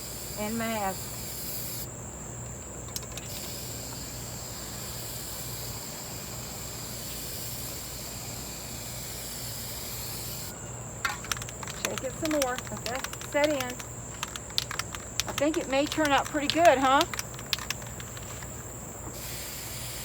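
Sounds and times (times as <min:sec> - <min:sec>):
aerosol spray hissing: 0:00.0 - 0:01.9, 0:03.3 - 0:10.5, 0:11.5 - 0:20.0.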